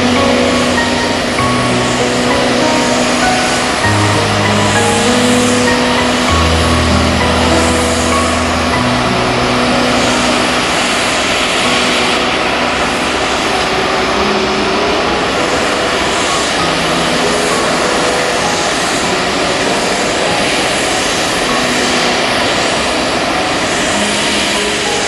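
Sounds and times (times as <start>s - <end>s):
heavy rain: 0.0s - 25.0s
jet engines rumbling and hissing: 0.0s - 25.0s.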